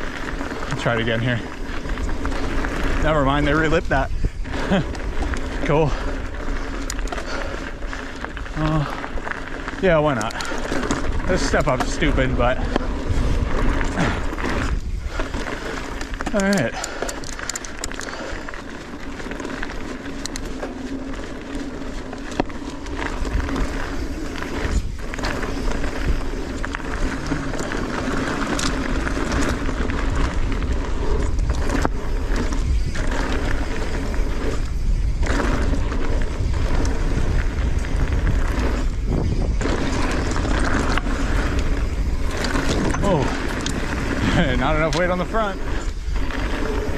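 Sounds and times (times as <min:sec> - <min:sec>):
wind on microphone: 0:00.0 - 0:09.2, 0:09.8 - 0:18.6, 0:21.0 - 0:46.9
bike tyres rolling on dirt: 0:00.0 - 0:46.9.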